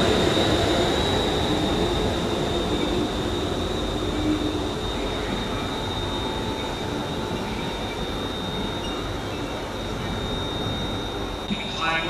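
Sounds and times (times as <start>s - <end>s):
high-pitched whine: 0.0s - 12.0s
train rumbling: 0.0s - 12.0s.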